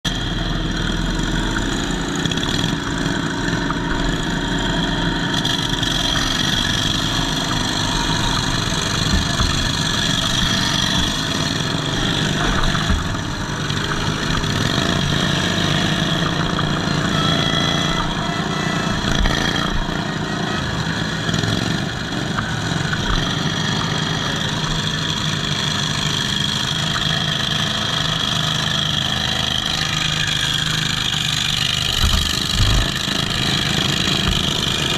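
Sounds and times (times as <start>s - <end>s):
twin-cylinder engine running: 0.0s - 34.9s.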